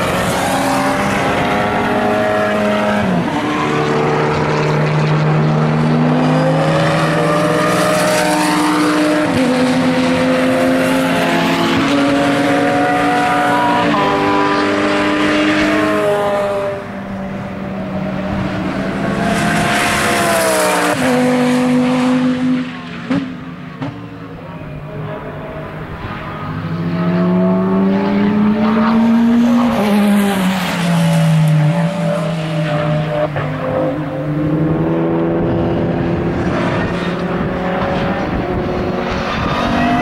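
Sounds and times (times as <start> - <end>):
race car engine with gear changes: 0.0 - 40.0.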